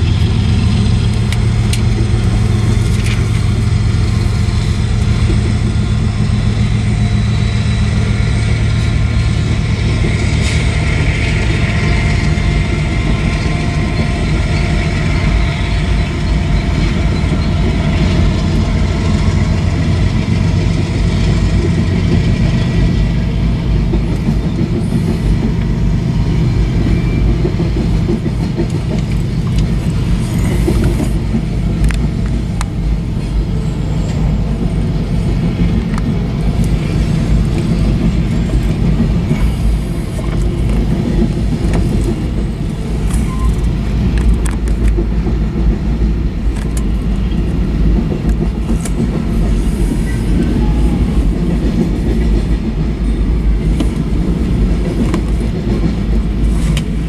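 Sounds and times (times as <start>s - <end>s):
freight train wheels rumbling: 0.0s - 57.0s
wheels clicking over rail joints: 0.0s - 57.0s.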